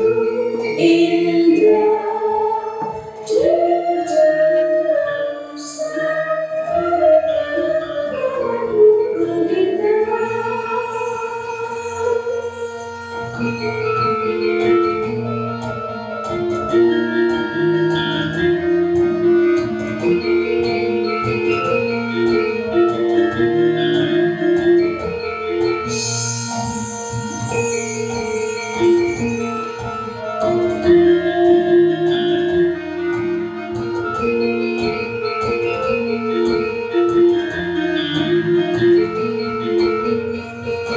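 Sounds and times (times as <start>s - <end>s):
gamelan metal keyed instruments: 0.0s - 40.9s
ringing metal mallet percussion: 5.5s - 40.9s.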